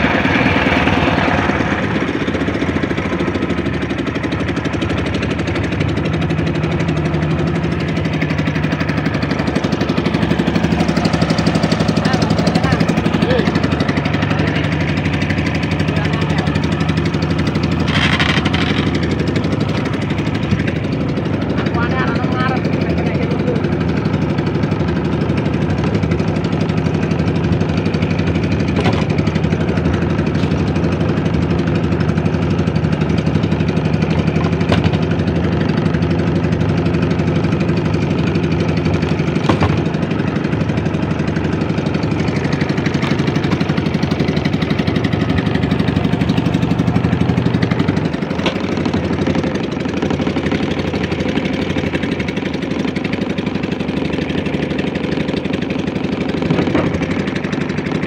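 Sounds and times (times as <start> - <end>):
boat engine puttering: 0.0 - 58.0.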